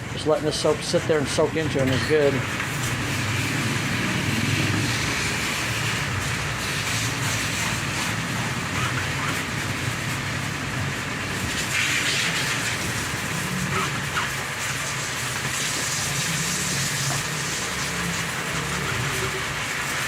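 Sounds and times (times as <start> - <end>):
hiss: 2.2 - 20.0.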